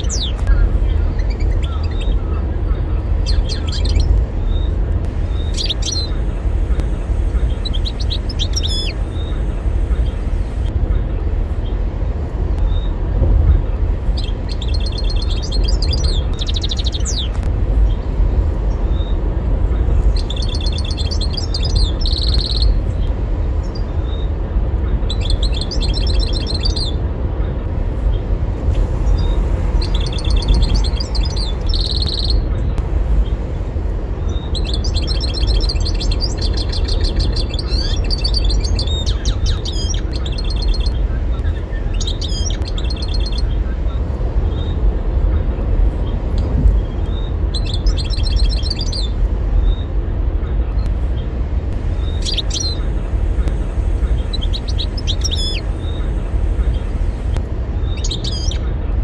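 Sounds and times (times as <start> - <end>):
bird twittering and trilling: 0.0 - 11.8, 12.6 - 18.0, 18.7 - 27.0, 29.0 - 32.8, 34.2 - 45.4, 46.8 - 50.9, 52.0 - 58.8
steady low rumble: 0.0 - 59.0.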